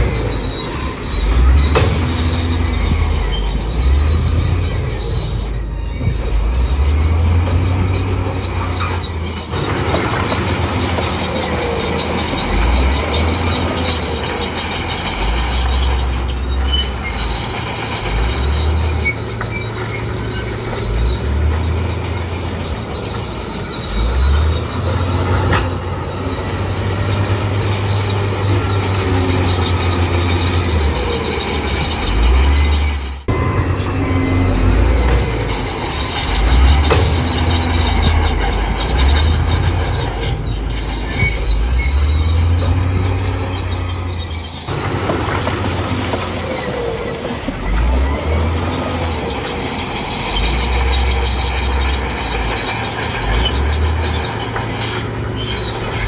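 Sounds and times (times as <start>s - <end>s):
bulldozer diesel engine running: 0.0s - 56.0s
steel tracks squealing and clanking: 0.0s - 56.0s.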